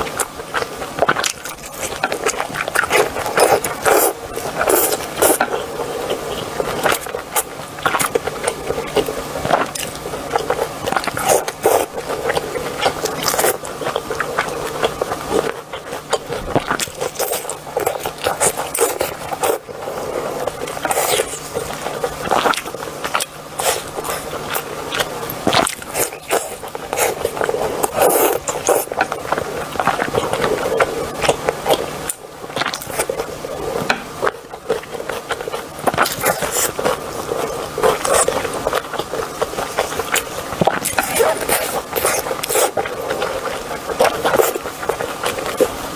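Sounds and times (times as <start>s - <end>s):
chewing and biting: 0.0s - 45.9s.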